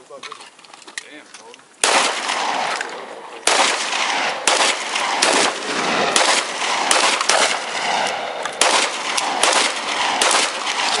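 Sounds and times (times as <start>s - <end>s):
gunshots with long echo: 1.8s - 11.0s.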